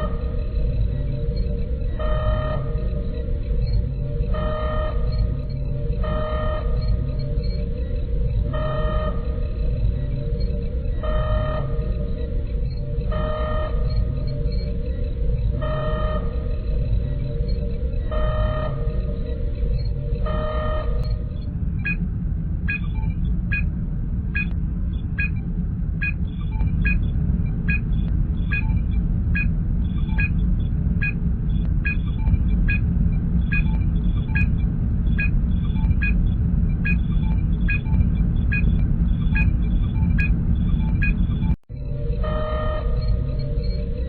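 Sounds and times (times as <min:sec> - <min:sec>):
low engine hum: 0:00.0 - 0:44.0.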